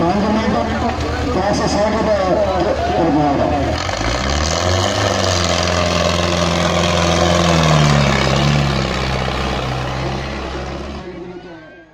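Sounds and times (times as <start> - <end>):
diesel tractor engine running: 0.0 - 11.9.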